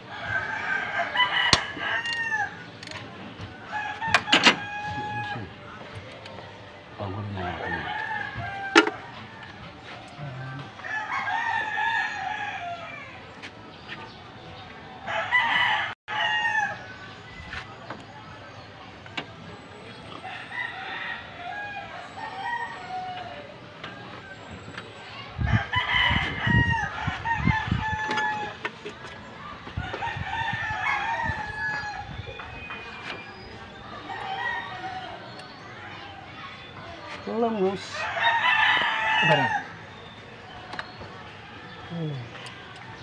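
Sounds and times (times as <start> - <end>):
roosters crowing: 0.0 - 5.8, 7.3 - 13.3, 15.0 - 17.2, 20.0 - 24.5, 25.1 - 36.9, 37.5 - 42.9.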